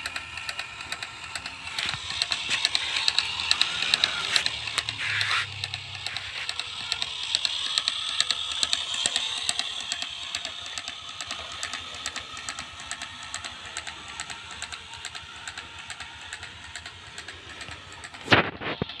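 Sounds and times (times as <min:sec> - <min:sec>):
toy tractor motor whining: 0:00.0 - 0:19.0.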